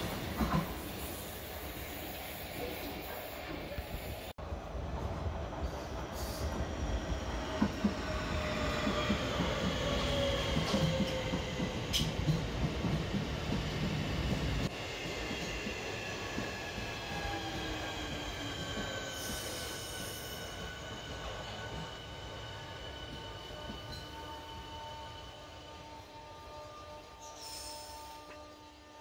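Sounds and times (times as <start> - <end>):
train wheels rumbling on rails: 0.0 - 26.0
train whining tones: 5.0 - 29.0.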